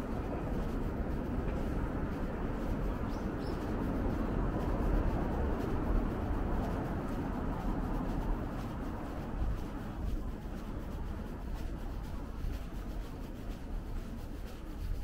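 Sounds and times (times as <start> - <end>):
distant traffic hum: 0.0 - 15.0
faint footsteps on pavement: 0.0 - 15.0.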